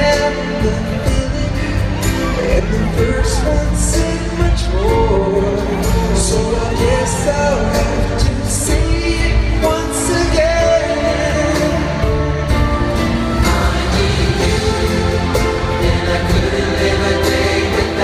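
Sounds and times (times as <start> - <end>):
male vocal group singing: 0.0 - 18.0.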